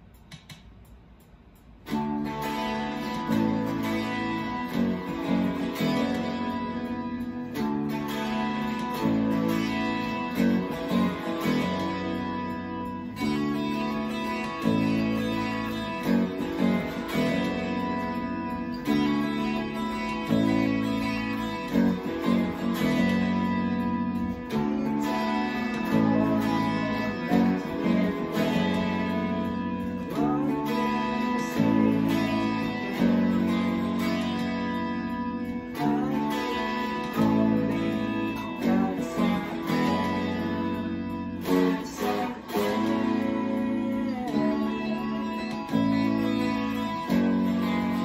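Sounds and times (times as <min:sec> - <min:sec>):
electric guitars playing rock: 0:00.0 - 0:48.0.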